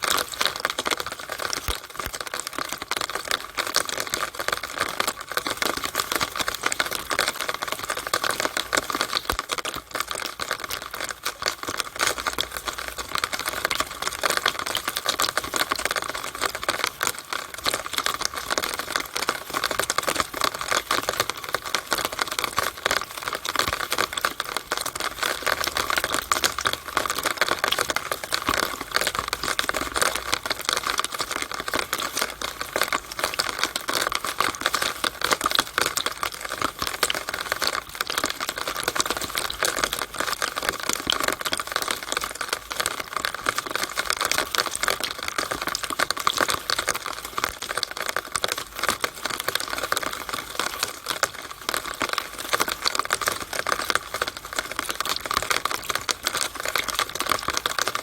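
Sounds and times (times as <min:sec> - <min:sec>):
rainwater running down downspout: 0:00.0 - 0:58.0.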